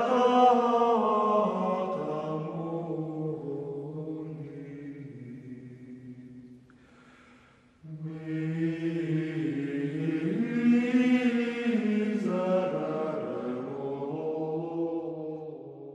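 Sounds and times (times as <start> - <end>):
slow vocal chanting: 0.0 - 15.9.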